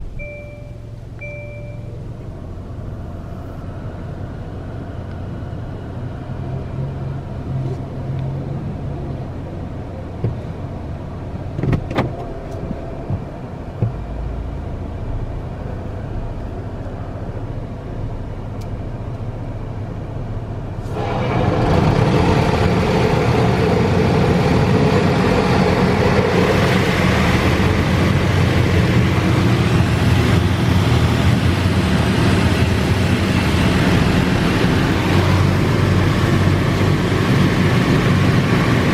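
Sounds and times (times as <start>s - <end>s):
car wash machinery hum: 0.0s - 38.9s.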